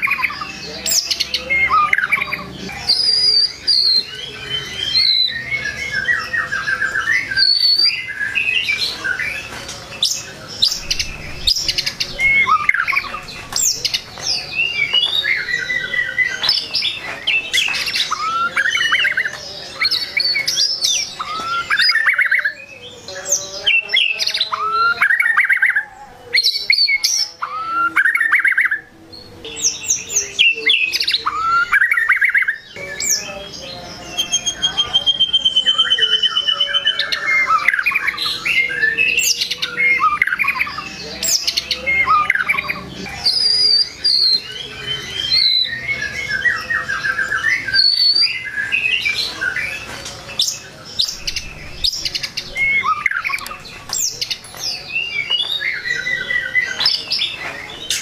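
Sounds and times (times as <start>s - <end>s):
shama singing whistling song: 0.0s - 58.0s.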